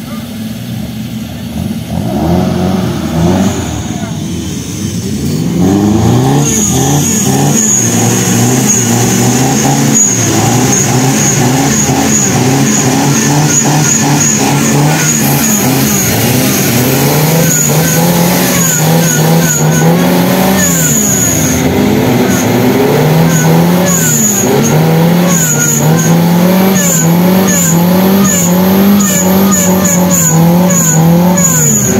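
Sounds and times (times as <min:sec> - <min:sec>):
truck engine revving: 0:00.0 - 0:31.9.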